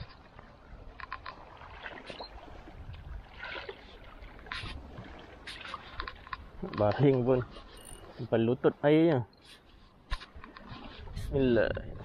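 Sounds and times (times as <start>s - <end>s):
water lapping at shoreline: 0.0s - 12.0s.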